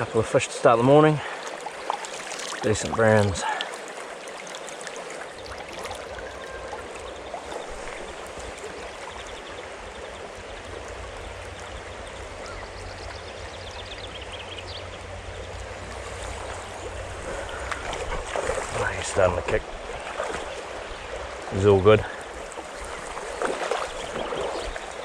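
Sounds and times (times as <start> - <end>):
stream running over stones: 0.0 - 25.0.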